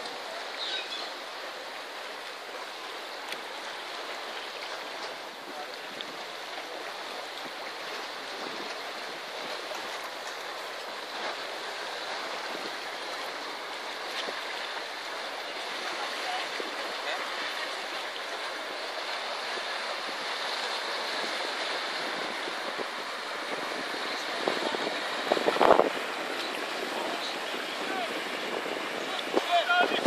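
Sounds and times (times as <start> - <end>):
waves washing: 0.0 - 30.0.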